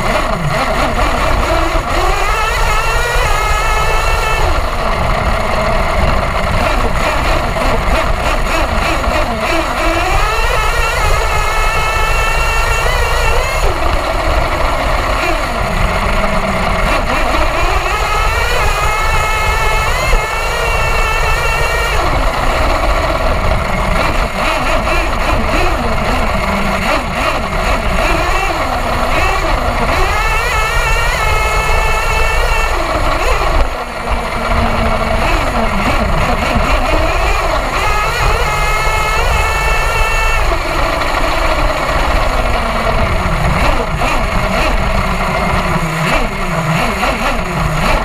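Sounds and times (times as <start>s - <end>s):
steady low rumble: 0.0s - 47.8s
model engine revving: 0.0s - 48.0s.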